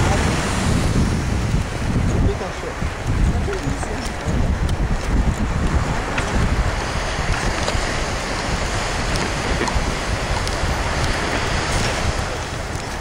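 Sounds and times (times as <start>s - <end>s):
beach surf: 0.0s - 13.0s
wind on microphone: 0.0s - 13.0s.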